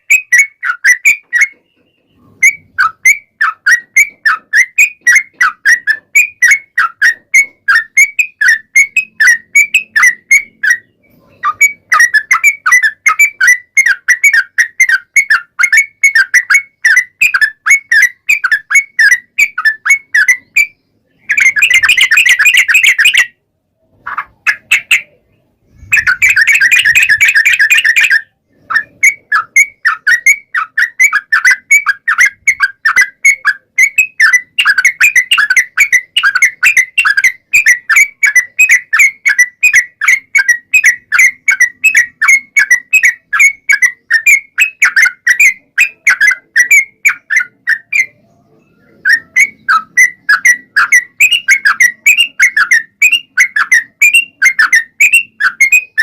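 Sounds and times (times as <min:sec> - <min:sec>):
bulbul singing rapid notes: 0:00.0 - 0:56.0.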